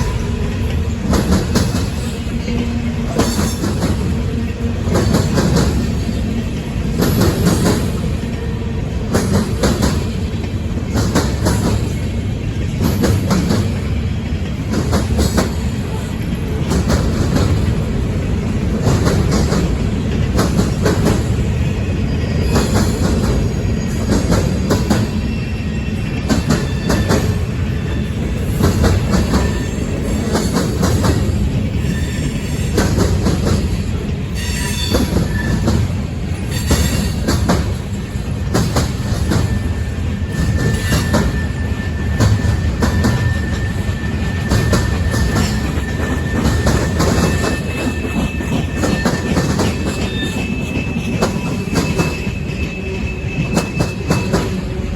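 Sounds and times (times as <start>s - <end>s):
freight train rumbling past: 0.0s - 54.9s
wheels squealing against rails: 0.0s - 54.9s.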